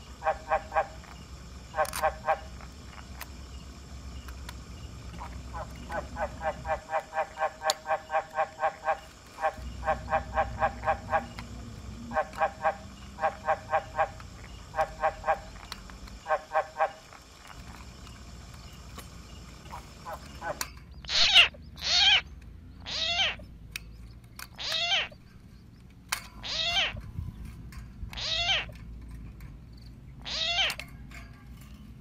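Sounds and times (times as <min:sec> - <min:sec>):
frogs croaking rapidly: 0:00.0 - 0:29.0, 0:29.7 - 0:31.2.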